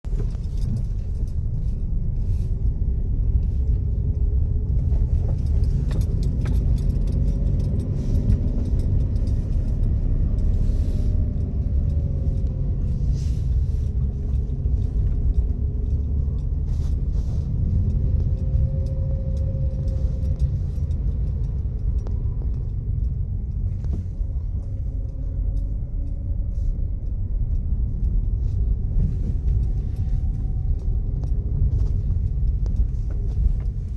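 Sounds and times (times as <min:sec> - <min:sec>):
motor vehicle engine rumbling: 0:00.0 - 0:33.9
light clicks and rattles: 0:00.1 - 0:33.9.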